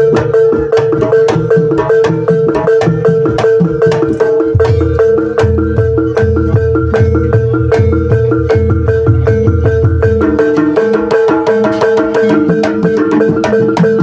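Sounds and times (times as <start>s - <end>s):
hand drum: 0.0s - 14.0s
heavy low gamelan part: 0.0s - 14.0s
mallet-struck gamelan instruments: 0.0s - 14.0s.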